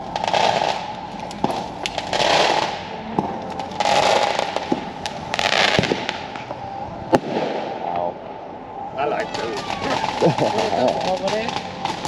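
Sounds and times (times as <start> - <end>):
fireworks hissing: 0.0 - 8.0, 9.0 - 12.0
fireworks cracks and pops: 0.0 - 8.1, 9.2 - 12.0.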